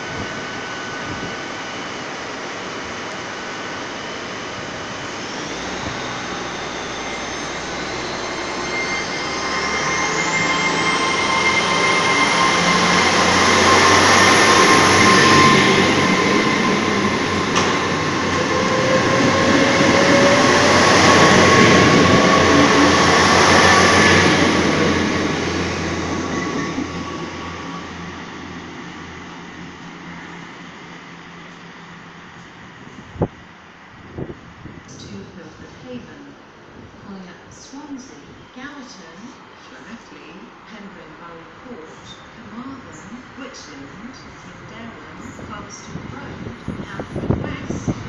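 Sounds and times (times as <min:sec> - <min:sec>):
train rumble and wheel noise: 0:00.0 - 0:48.0
train traction whine: 0:00.0 - 0:48.0.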